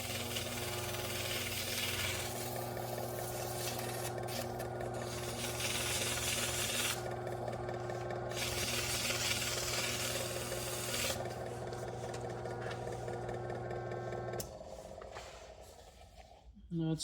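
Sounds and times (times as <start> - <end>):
fan motor humming: 0.0 - 15.7.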